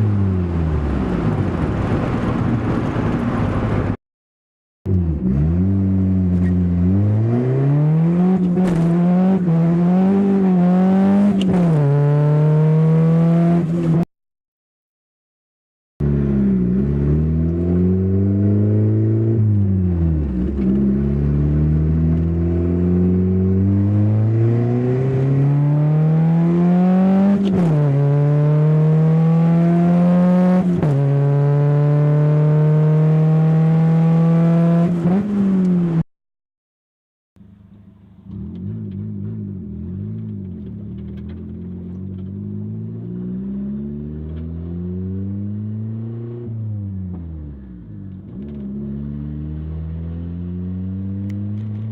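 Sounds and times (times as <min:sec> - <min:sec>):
car engine accelerating through gears: 0:04.9 - 0:14.0, 0:16.0 - 0:36.0, 0:37.6 - 0:51.9.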